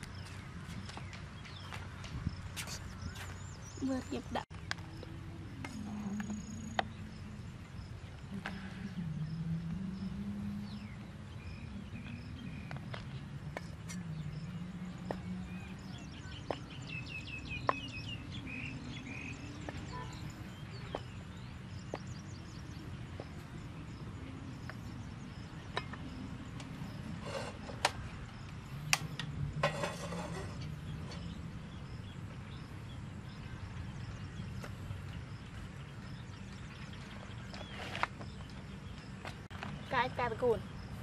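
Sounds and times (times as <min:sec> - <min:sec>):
bird chirping: 0:00.0 - 0:41.0
outdoor background noise: 0:00.0 - 0:41.0.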